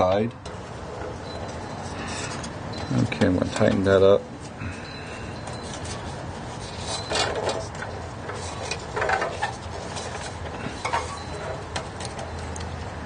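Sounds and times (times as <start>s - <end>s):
scrapes and clinks on metal and glass: 0.8s - 12.6s.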